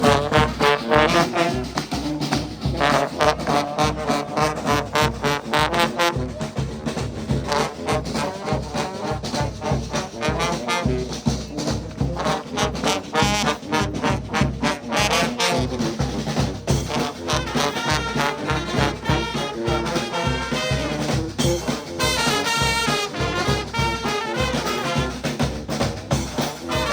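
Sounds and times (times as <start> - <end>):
brass band playing up-tempo tune: 0.0 - 26.9.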